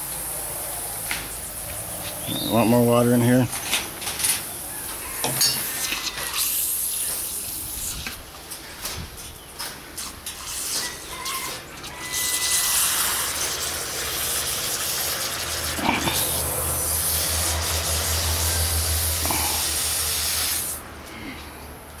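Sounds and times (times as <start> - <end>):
water spraying from a hose: 0.0 - 3.4, 4.2 - 8.2, 10.0 - 20.9.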